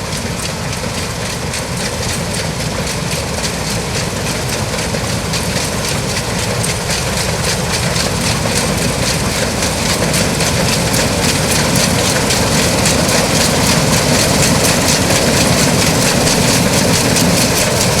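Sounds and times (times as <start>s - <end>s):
fast mechanical clatter: 0.0s - 18.0s
heavy engine rumble: 0.0s - 18.0s.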